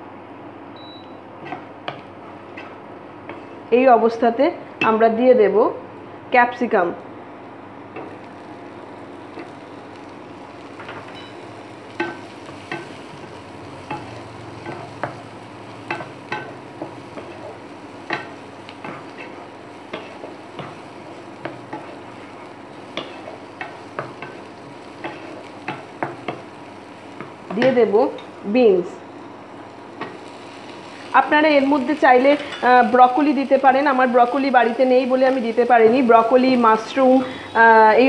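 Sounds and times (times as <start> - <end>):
vegetables sizzling in pan: 0.8 - 5.3, 7.2 - 38.0.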